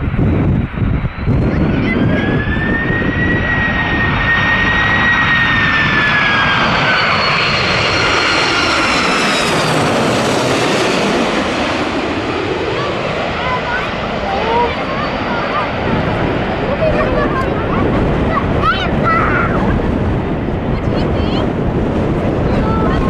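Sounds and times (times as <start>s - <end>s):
high engine whine: 0.0s - 19.0s
jet engines running: 0.0s - 23.0s.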